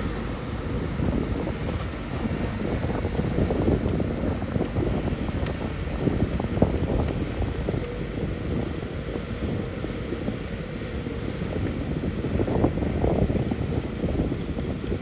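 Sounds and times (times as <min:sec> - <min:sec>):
diesel machinery rumbling: 0:00.0 - 0:15.0
wind buffeting microphone: 0:00.0 - 0:15.0.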